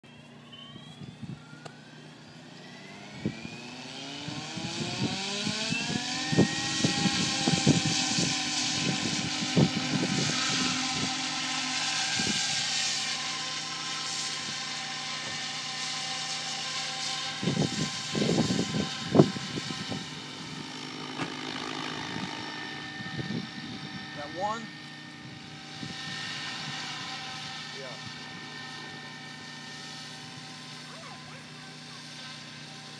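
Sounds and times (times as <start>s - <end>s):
rc helicopter motor whine: 0.0s - 32.9s
rotor blades rushing hiss: 1.8s - 32.9s.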